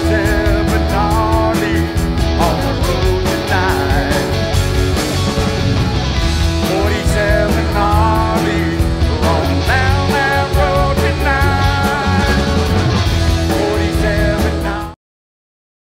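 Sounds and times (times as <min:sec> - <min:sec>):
bass: 0:00.0 - 0:15.0
drums and cymbal beats: 0:00.0 - 0:15.0
electric guitars: 0:00.0 - 0:15.0
wavering lead guitar melody: 0:00.0 - 0:15.0.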